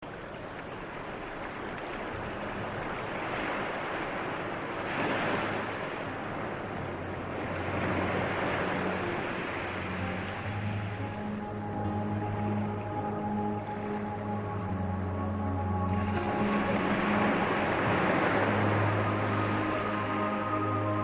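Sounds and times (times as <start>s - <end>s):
ocean surf washing onto beach: 0.0s - 21.0s.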